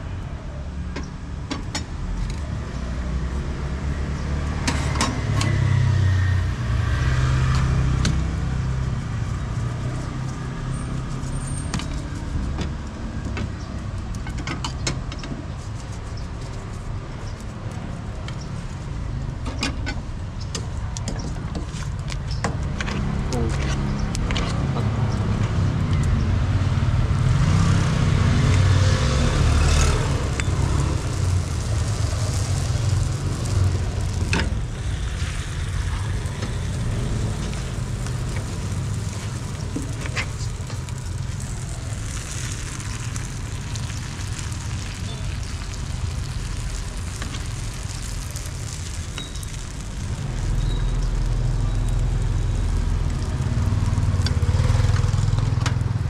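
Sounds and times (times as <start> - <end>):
street traffic rumbling: 0.0 - 56.0.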